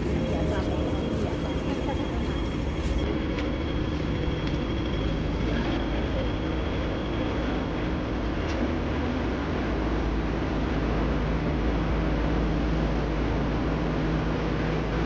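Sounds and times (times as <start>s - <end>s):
faint high whine: 0.0s - 15.0s
traffic engine hum: 0.0s - 15.0s.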